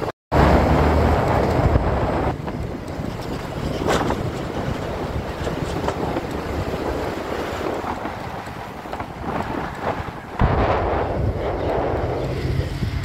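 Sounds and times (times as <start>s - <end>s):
wind buffeting microphone: 0.4s - 13.0s.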